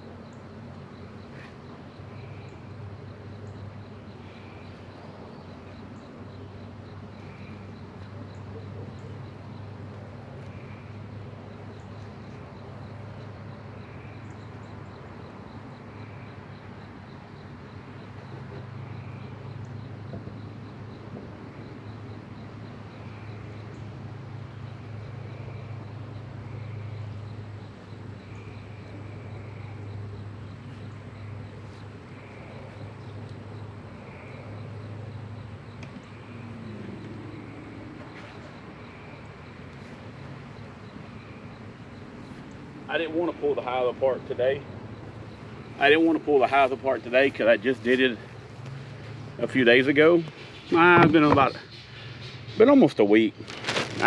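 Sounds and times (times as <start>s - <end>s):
honeybees humming: 0.0s - 54.0s.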